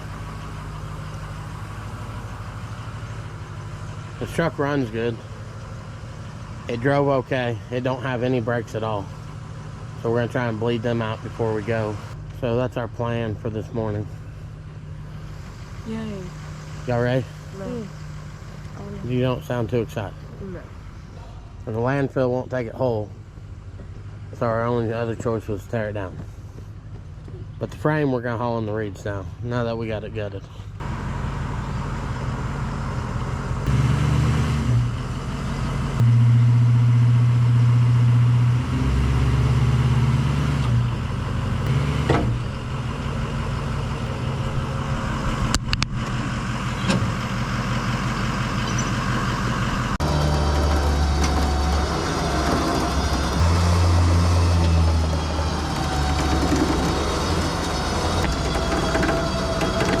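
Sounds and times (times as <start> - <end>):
heavy vehicle engine running: 0.0 - 60.0.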